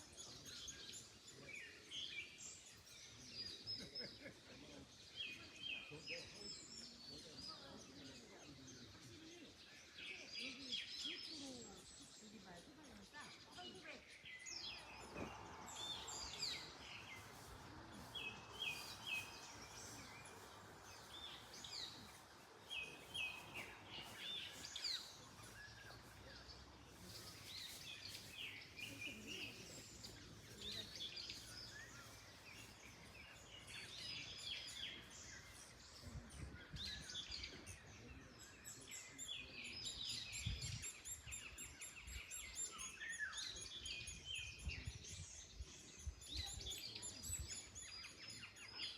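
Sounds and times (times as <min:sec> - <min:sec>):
birds chirping and singing: 0:00.0 - 0:48.9
wind rustling in trees: 0:00.0 - 0:48.9.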